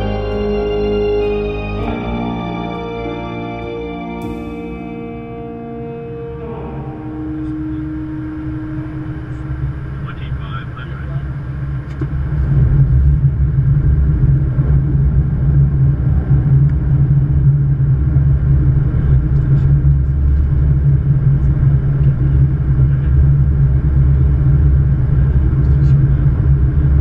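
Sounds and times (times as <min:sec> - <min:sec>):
cockpit airflow and engine rumble: 0:05.3 - 0:27.0.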